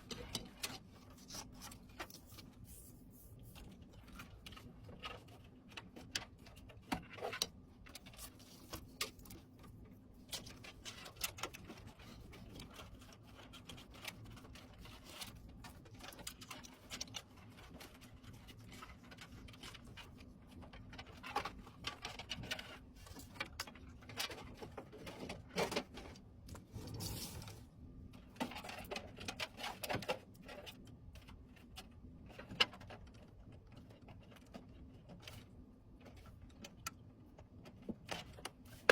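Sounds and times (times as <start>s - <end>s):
small clicks taps and rustles: 0.0s - 2.6s, 3.4s - 26.7s, 28.1s - 38.9s
faint steady hum: 0.0s - 38.9s.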